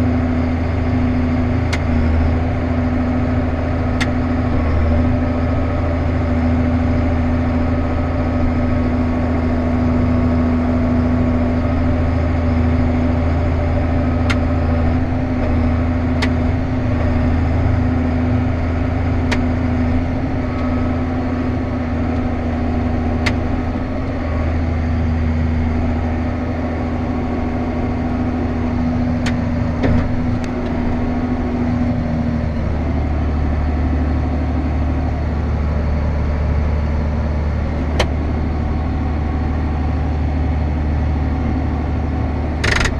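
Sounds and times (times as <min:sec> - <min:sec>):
machine engine humming: 0:00.0 - 0:42.9.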